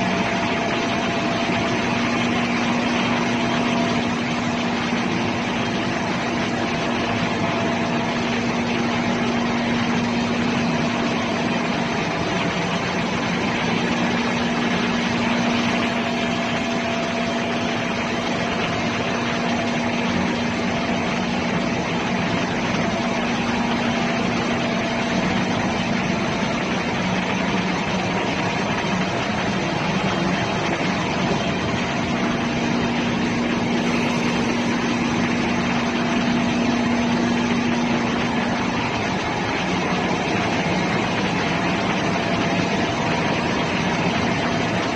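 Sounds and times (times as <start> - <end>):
engine-room machinery drone: 0.0 - 44.9.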